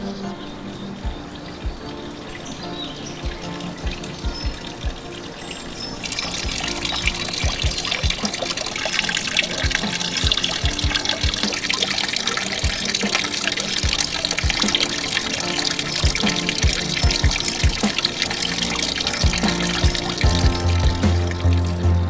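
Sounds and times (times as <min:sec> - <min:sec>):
background music with low beat: 0:00.0 - 0:22.0
fountain water splashing into pool: 0:00.7 - 0:21.8.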